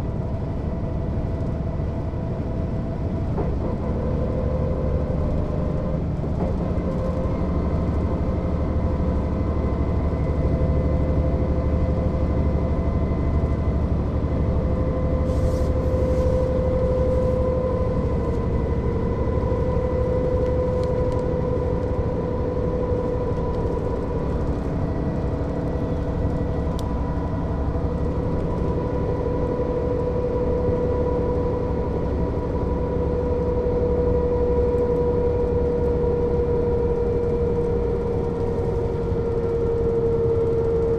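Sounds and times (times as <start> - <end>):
bus diesel engine drone and whine: 0.0 - 40.9.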